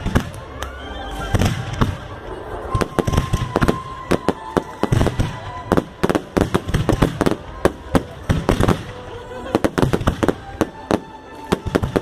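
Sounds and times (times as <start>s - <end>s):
firework bangs: 0.0s - 0.5s, 1.3s - 12.0s.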